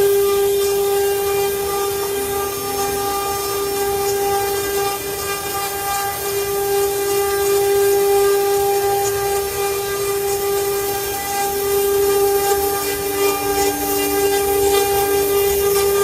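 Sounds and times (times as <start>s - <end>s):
router motor high whine: 0.0s - 16.0s.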